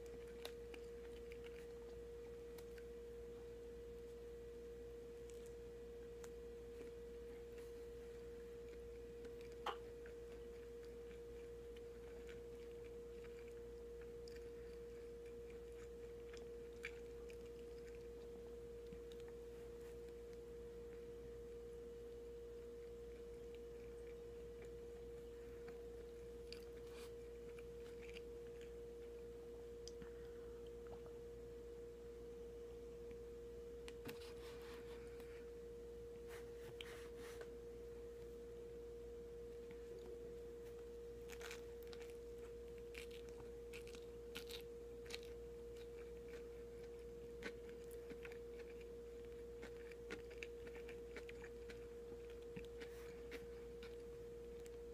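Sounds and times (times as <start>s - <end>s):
person chewing a sandwich: 0.0s - 4.3s, 5.0s - 21.1s, 22.0s - 31.2s, 39.5s - 54.9s
steady low hum: 0.0s - 54.9s.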